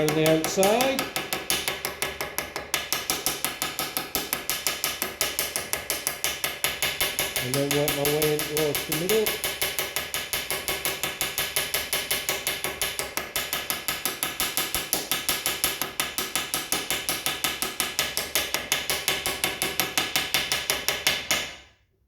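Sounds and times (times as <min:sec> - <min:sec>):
hammer tapping metal rivet: 0:00.0 - 0:21.6.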